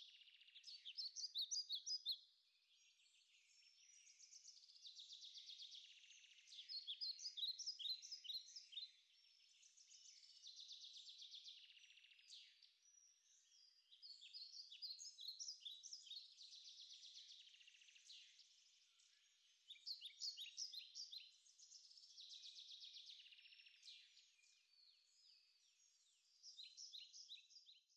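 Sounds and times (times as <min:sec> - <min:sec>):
faint birdsong: 0:00.0 - 0:27.9.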